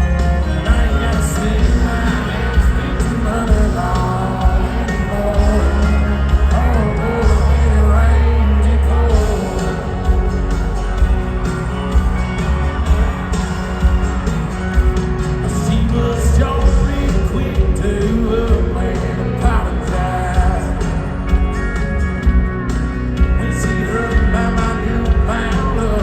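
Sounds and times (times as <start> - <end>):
lead singer: 0.0 - 21.6, 23.1 - 26.0
drums: 0.0 - 26.0
heavy bass: 0.0 - 26.0
live country band: 0.0 - 26.0.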